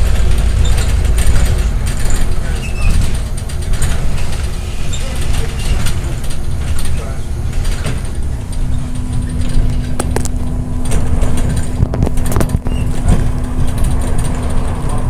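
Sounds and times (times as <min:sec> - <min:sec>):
bus engine and road rumble: 0:00.0 - 0:15.0
constant hum: 0:00.0 - 0:15.0
sharp clicks and rattles: 0:00.0 - 0:15.0.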